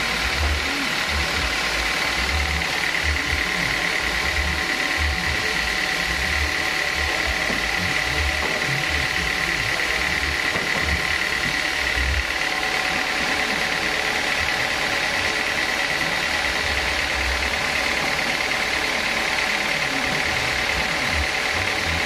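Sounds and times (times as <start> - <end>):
band sawmill whining: 0.0 - 22.0.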